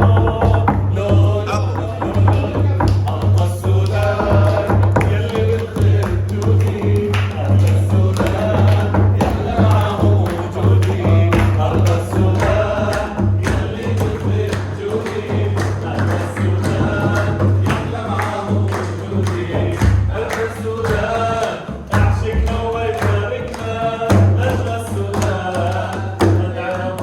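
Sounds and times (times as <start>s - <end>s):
driving drum beat: 0.0s - 27.0s
voices singing together: 0.0s - 27.0s.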